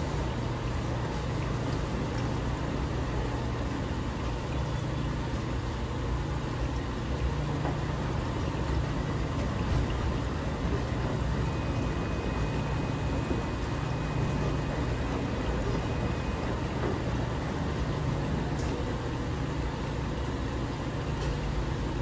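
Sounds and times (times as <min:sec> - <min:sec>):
laundry tumbling and water sloshing: 0:00.0 - 0:22.0
washer motor humming: 0:00.0 - 0:22.0.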